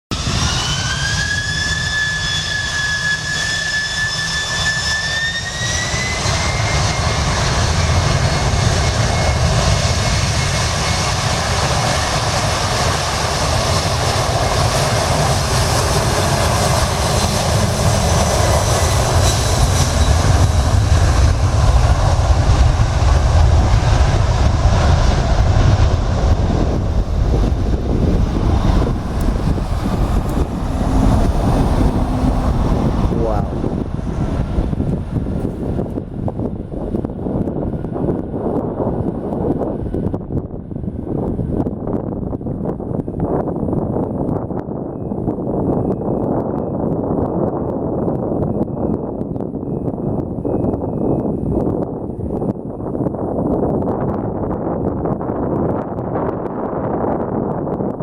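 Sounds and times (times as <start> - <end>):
deep engine rumble: 0.0 - 58.0
jet engine whine: 0.0 - 58.0.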